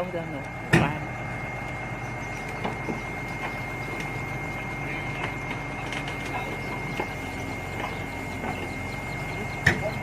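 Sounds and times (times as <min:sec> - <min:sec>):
excavator engine running: 0:00.0 - 0:10.0
thin high whine: 0:00.4 - 0:10.0.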